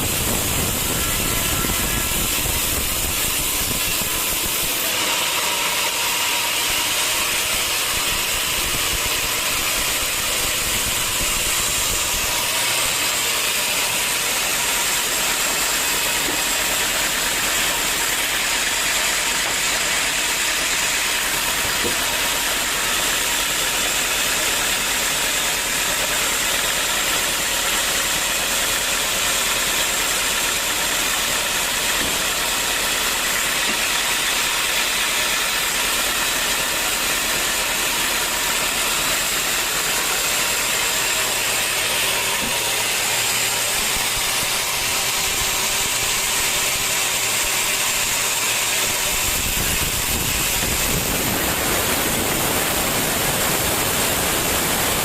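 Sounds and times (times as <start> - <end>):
sawmill saw machinery: 0.0 - 55.0.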